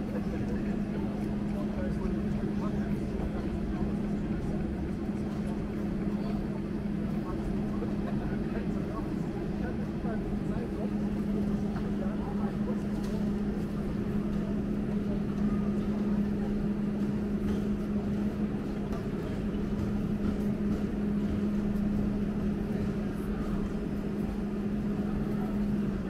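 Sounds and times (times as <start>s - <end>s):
low rumble of station noise: 0.0s - 26.0s
standing train humming: 0.0s - 26.0s.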